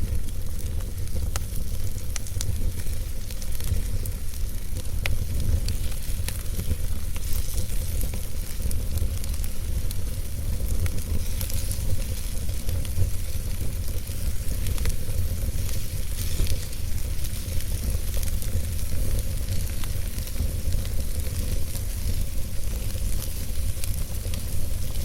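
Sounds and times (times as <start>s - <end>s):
burning logs crackling and popping: 0.0s - 25.0s
fire rumbling: 0.0s - 25.0s.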